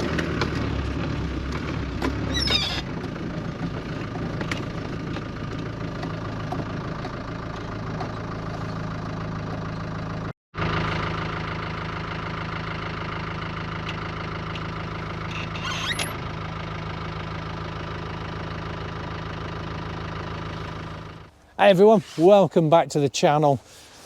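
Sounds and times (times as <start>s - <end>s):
diesel engine running: 0.0s - 22.2s.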